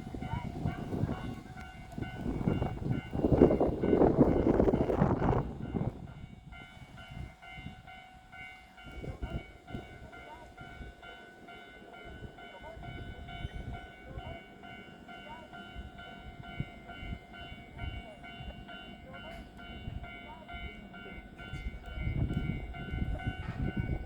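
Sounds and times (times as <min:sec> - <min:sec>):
low rumble of rail noise: 0:00.0 - 0:24.0.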